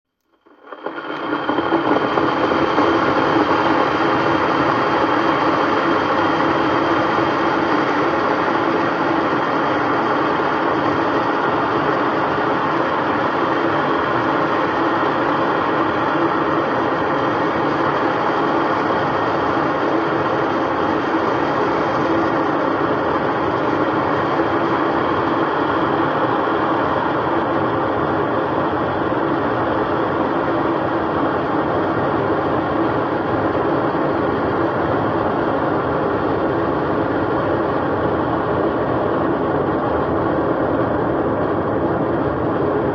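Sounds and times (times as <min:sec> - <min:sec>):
electric kettle heating water: 0:00.2 - 0:42.9.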